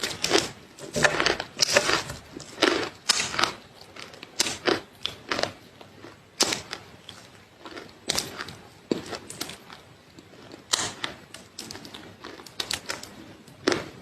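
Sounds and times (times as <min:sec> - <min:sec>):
chewing crunchy food: 0:00.0 - 0:14.0.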